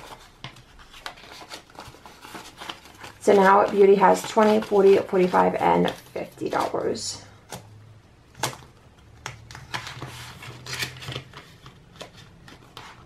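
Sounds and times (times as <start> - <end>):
paper and plastic rustling: 0.0 - 7.1, 9.4 - 13.0.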